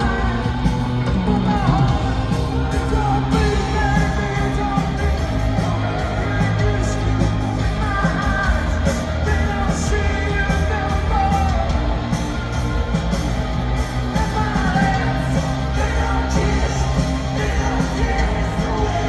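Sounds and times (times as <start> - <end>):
live rock band with vocals: 0.0 - 19.0.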